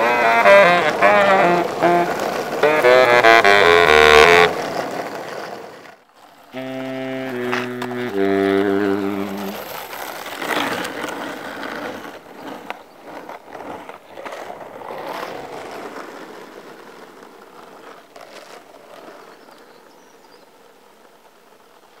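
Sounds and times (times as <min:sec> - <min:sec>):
skateboard wheels rolling on asphalt: 0:00.0 - 0:22.0.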